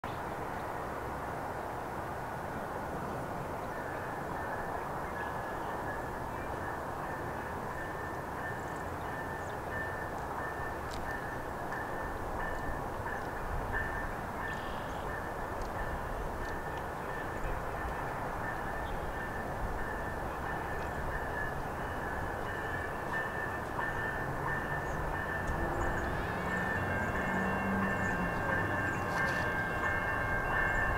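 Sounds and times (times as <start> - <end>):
passenger train approaching: 0.1 - 30.9
crossing warning bell ringing: 3.8 - 30.9.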